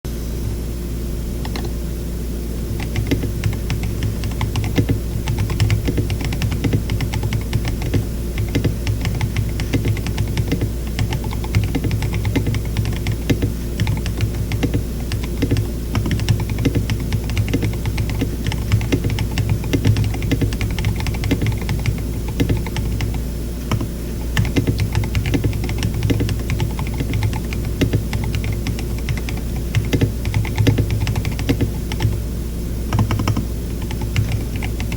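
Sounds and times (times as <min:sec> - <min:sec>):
low steady hum: 0:00.1 - 0:34.9.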